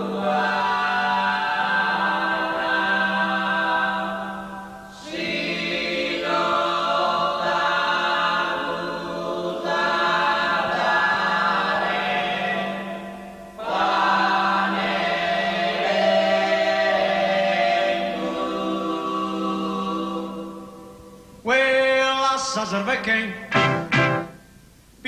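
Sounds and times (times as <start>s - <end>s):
choir chanting: 0.0s - 21.1s.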